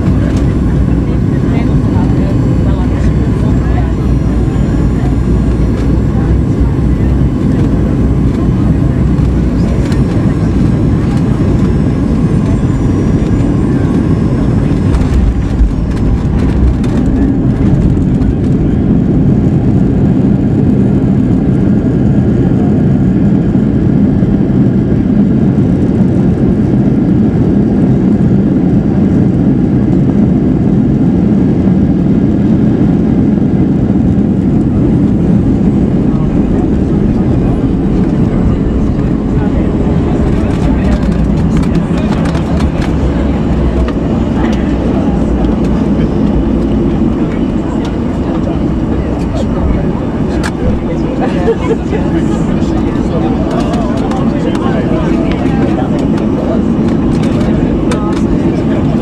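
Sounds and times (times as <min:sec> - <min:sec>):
aircraft rolling hum: 0:00.0 - 0:59.0
jet engines rumbling: 0:00.0 - 0:59.0.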